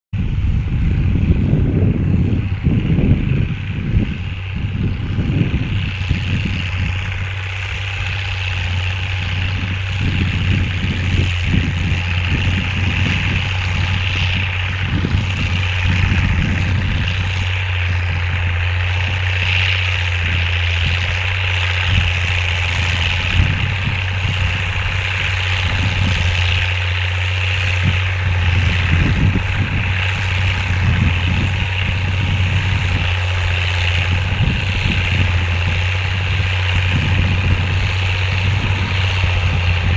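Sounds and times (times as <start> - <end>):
engine idling: 0.1 - 39.9.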